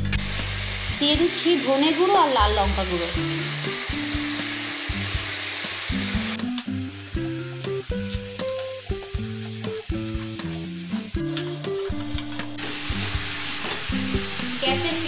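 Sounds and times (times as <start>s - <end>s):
chicken sizzling in hot oil: 0.0s - 15.0s
soft background music: 0.1s - 15.0s.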